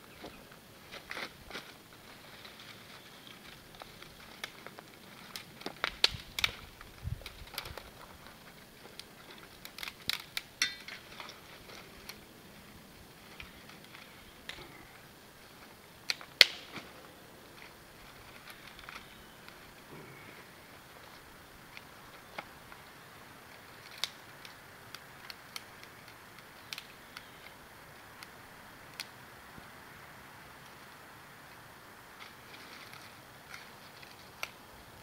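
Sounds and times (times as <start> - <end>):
rustling and clicks of wood: 0.1 - 27.6, 32.1 - 35.0
dry sticks snapping: 0.2 - 29.2, 32.2 - 34.7.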